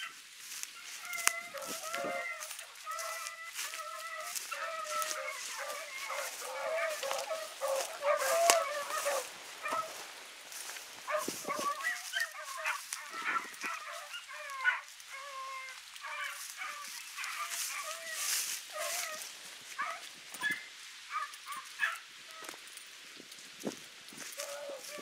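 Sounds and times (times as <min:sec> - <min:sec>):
hounds baying: 0:00.0 - 0:22.8, 0:24.2 - 0:25.0.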